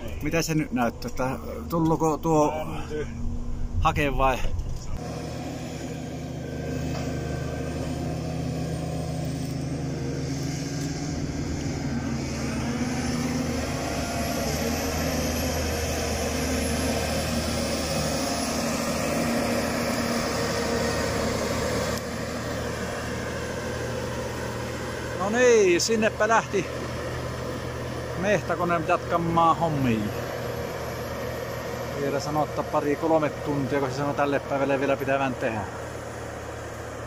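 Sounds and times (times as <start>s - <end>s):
diesel engine under load: 0.0s - 37.0s
high whine: 0.0s - 37.0s.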